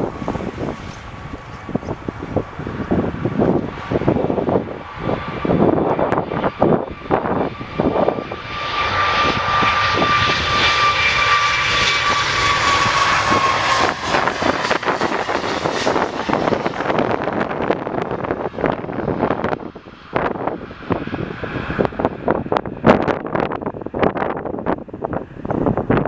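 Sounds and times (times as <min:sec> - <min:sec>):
jet airliner engines whining: 0:00.0 - 0:26.0
wind buffeting microphone: 0:00.0 - 0:26.0.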